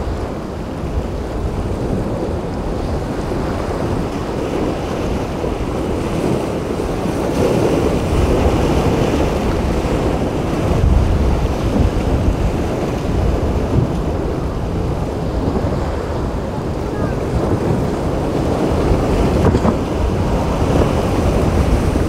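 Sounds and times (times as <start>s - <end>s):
rough surf: 0.0s - 22.0s
wind buffeting microphone: 0.0s - 22.0s.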